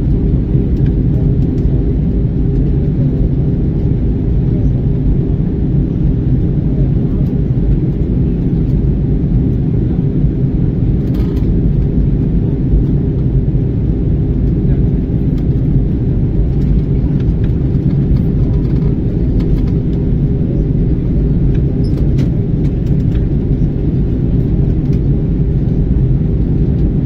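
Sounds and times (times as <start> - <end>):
airplane engines rumbling in cabin: 0.0 - 27.0.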